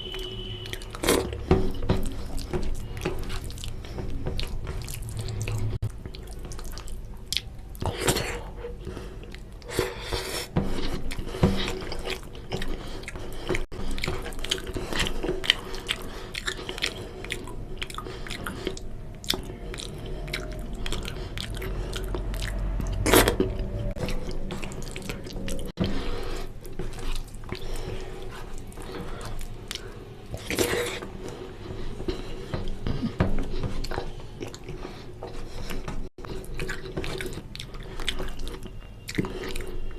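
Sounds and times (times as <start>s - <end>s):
wet chewing and smacking: 0.0s - 39.9s.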